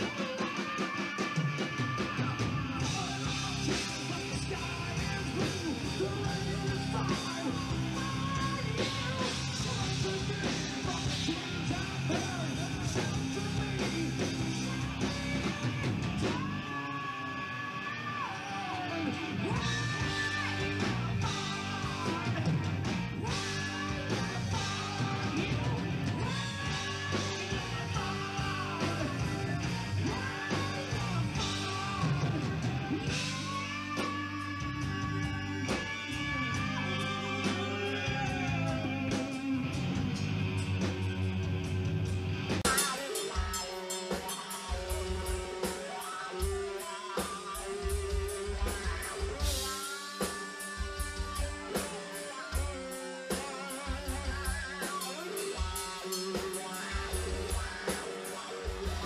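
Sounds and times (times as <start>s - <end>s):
person singing: 0.0s - 40.2s, 42.7s - 59.0s
rock band playing: 0.0s - 59.0s.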